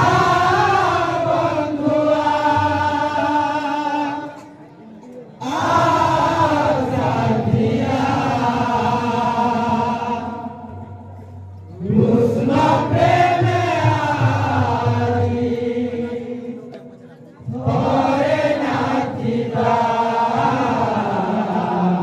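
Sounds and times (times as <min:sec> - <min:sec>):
men chanting together: 0:00.0 - 0:04.5, 0:05.4 - 0:10.9, 0:11.8 - 0:16.7, 0:17.5 - 0:22.0.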